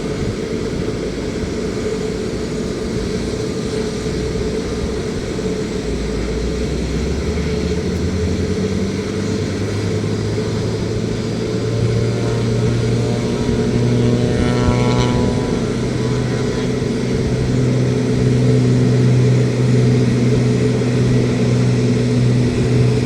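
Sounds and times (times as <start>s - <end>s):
aircraft engine running: 0.0s - 23.0s.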